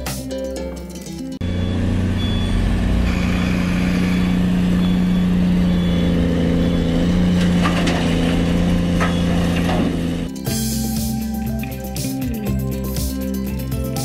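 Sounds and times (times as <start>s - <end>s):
excavator diesel engine running: 1.4s - 14.0s.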